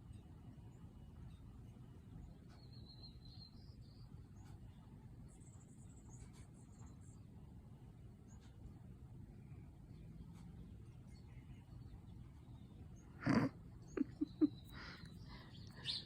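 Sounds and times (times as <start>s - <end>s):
low outdoor rumble: 0.0s - 16.0s
faint songbird calls: 0.8s - 7.4s, 9.3s - 16.0s.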